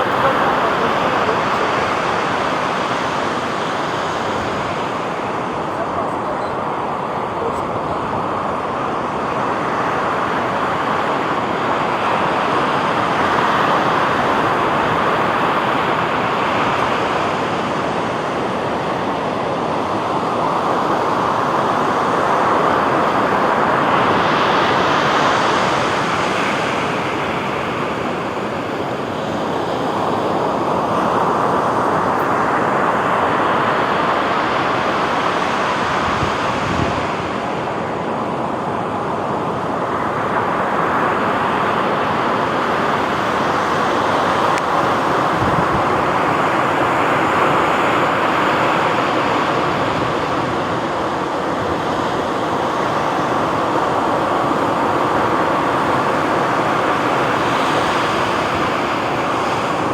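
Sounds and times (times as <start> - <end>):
sea surf washing onto beach: 0.0 - 59.9.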